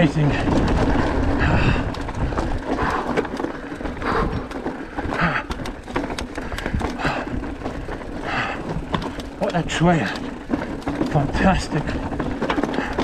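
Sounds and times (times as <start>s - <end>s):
bike rattling over rocks: 0.0s - 13.0s
bike tyres crunching over stones: 0.0s - 13.0s.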